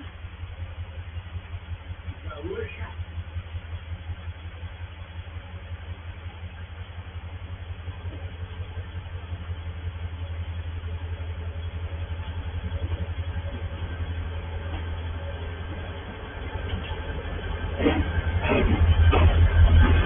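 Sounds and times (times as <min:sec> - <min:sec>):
diesel locomotive engine throbbing: 0:00.0 - 0:20.0.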